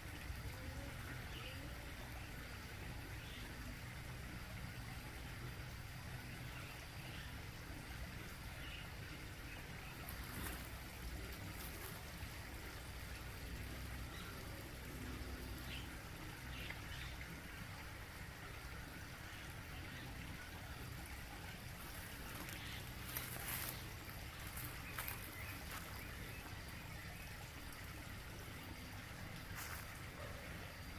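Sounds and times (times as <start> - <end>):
waterfall trickling into pond: 0.0 - 30.9.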